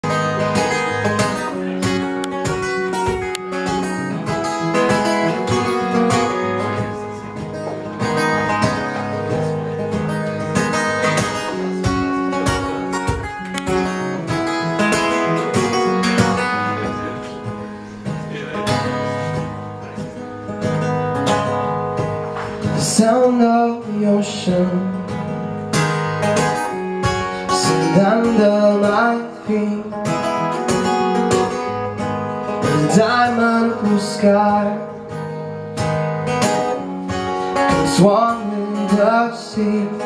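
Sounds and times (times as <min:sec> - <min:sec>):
acoustic guitar strummed and picked: 0:00.0 - 0:40.0.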